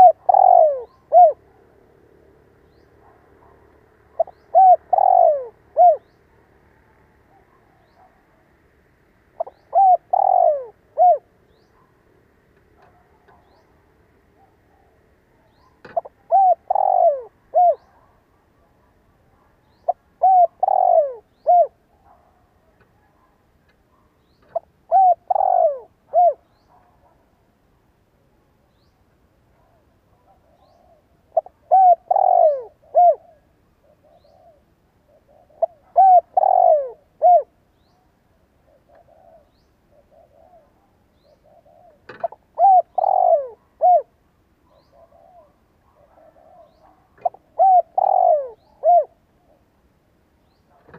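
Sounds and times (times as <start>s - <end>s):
dove cooing: 0.0s - 8.7s, 9.3s - 13.7s, 14.3s - 23.3s, 23.9s - 27.2s, 29.5s - 49.7s.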